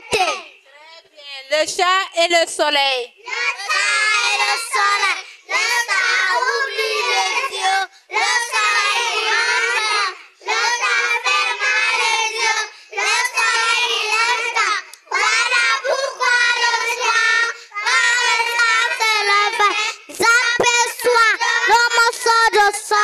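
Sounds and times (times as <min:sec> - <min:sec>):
children chanting in unison: 0:03.2 - 0:23.0.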